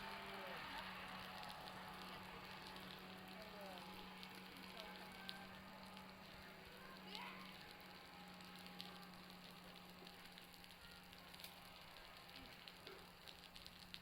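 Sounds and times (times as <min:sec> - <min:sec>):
meltwater dripping from roof: 0:00.0 - 0:14.0.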